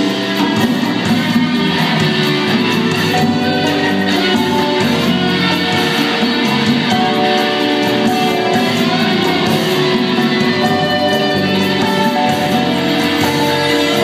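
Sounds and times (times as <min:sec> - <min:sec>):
drums: 0:00.0 - 0:14.0
strummed guitar: 0:00.0 - 0:14.0
violins and cellos: 0:00.0 - 0:14.0.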